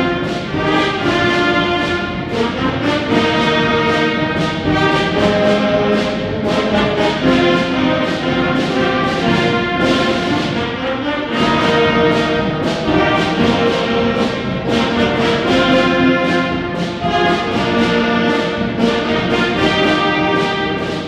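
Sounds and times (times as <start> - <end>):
concert band playing held chords: 0.0 - 21.0.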